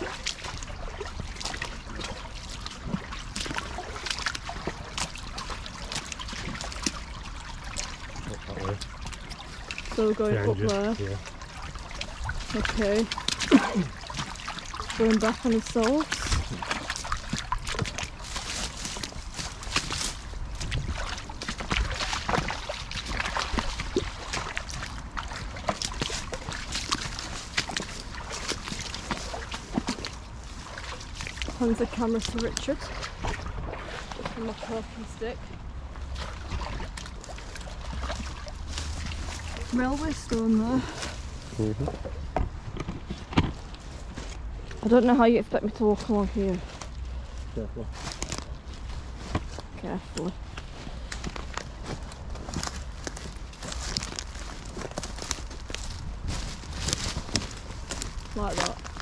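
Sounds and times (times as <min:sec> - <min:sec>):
splashing steps in water: 0:00.0 - 0:59.0
stream trickling: 0:00.0 - 0:59.0.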